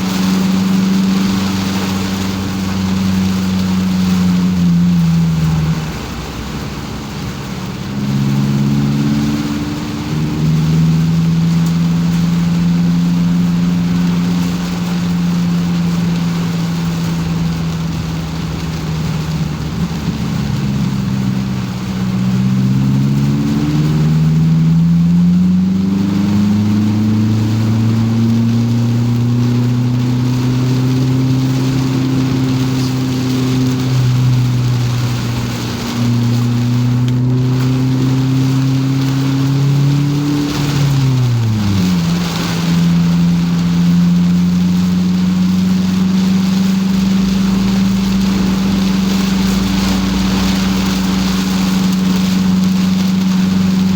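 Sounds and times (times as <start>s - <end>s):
car engine running: 0.0s - 53.9s
tyres hissing on wet road: 0.0s - 53.9s.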